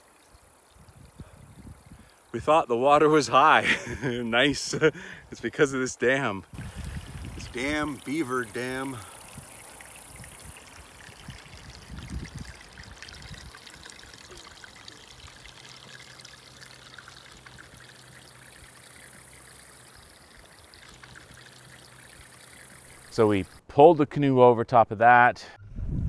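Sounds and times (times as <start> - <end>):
water trickling through dam: 0.0 - 23.6.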